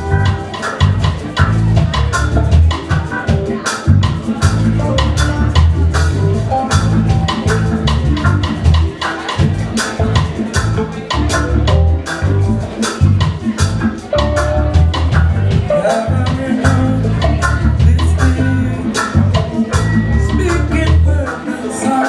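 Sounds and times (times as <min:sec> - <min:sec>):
reggae band playing: 0:00.0 - 0:22.0
strong bass line: 0:00.0 - 0:22.0.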